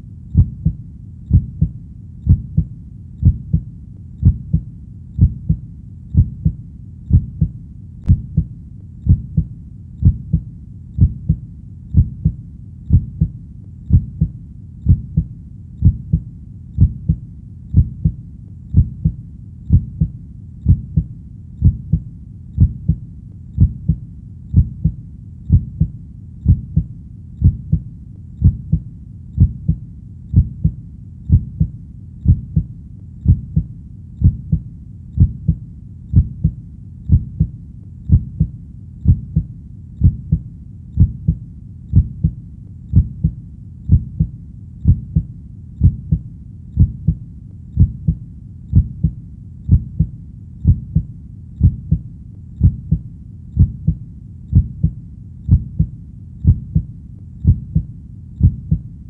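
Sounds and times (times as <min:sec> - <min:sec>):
heartbeat: 0:00.0 - 0:59.0.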